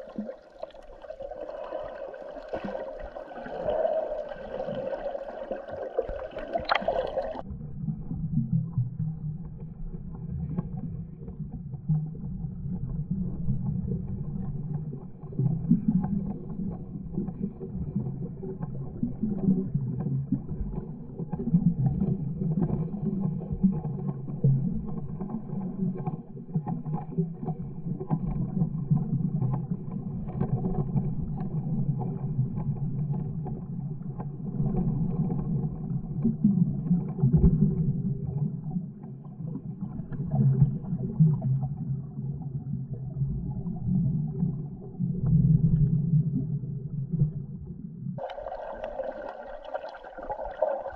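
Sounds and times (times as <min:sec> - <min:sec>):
muffled underwater water rumble: 0:00.0 - 0:50.9.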